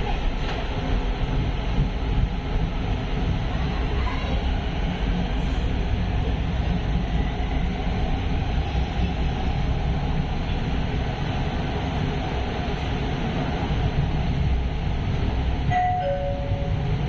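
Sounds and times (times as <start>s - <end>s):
train wheels and motors rumbling: 0.0s - 17.0s.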